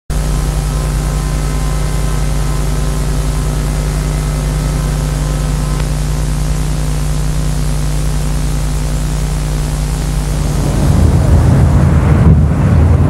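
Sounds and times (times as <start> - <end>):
electrical hum and buzz: 0.1 - 13.0
tape hiss: 0.1 - 13.0.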